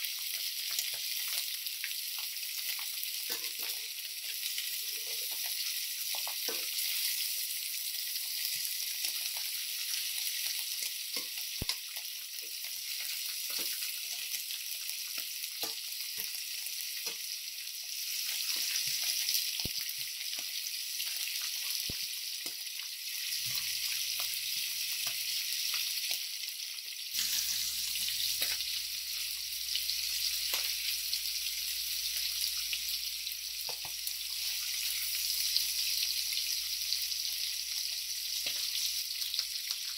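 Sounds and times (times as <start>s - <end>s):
meat sizzling in a skillet: 0.0s - 39.9s.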